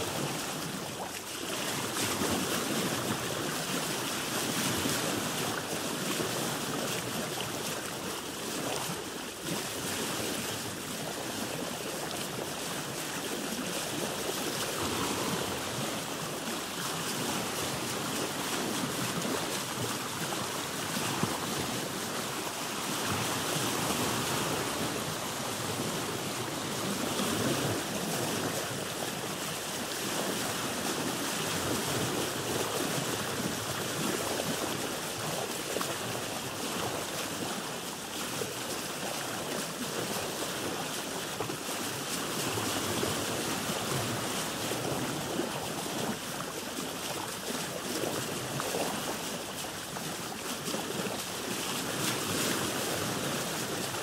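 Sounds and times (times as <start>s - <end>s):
water splashing against boat hull: 0.0s - 54.0s.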